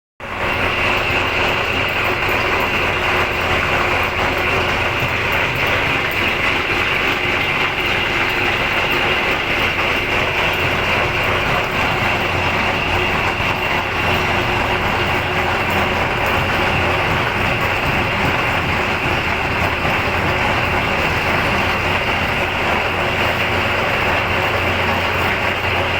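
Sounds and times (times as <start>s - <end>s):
metal lathe running: 0.2s - 25.9s.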